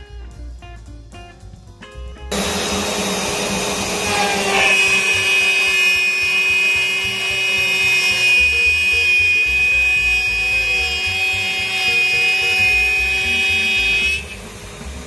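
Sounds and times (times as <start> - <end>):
end mill cutting wood: 2.3 - 15.0
router spindle high whine: 2.3 - 15.0.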